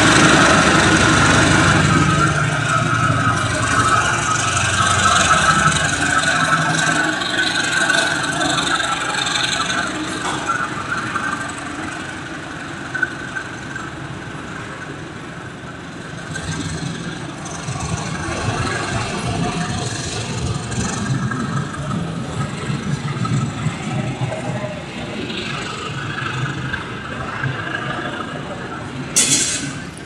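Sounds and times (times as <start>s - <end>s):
train running on rails: 0.0s - 30.0s.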